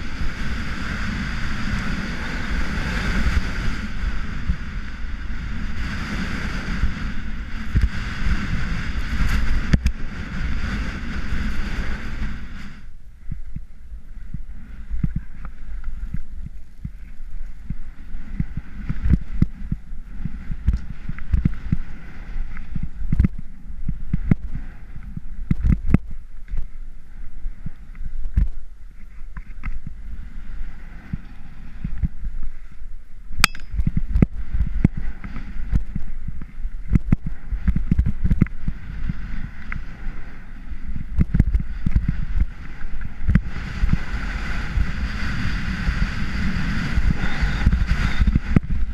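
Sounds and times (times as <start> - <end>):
skis scraping over snow: 0.0 - 12.8, 14.0 - 25.8, 34.3 - 48.9
wind buffeting microphone: 0.0 - 48.9.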